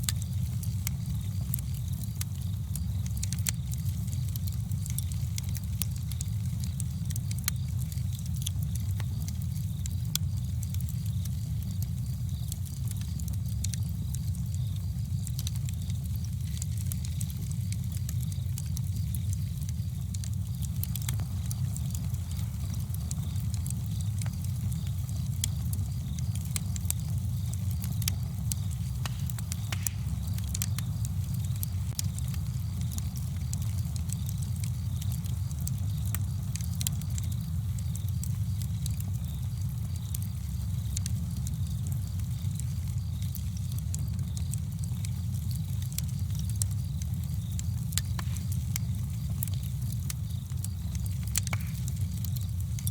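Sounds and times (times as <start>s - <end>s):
campfire wood crackling and popping: 0.0s - 52.9s
low fire rumble: 0.0s - 52.9s.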